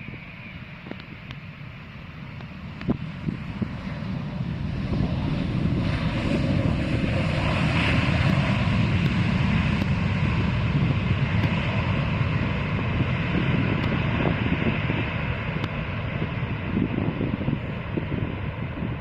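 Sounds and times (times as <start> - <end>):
jet airliner engines rumbling: 0.0 - 19.0.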